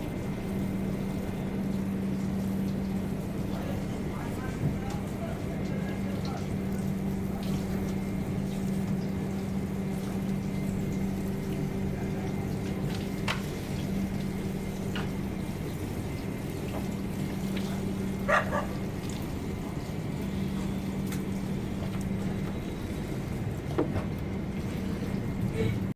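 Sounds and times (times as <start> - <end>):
train coach hum and rumble: 0.0 - 25.9.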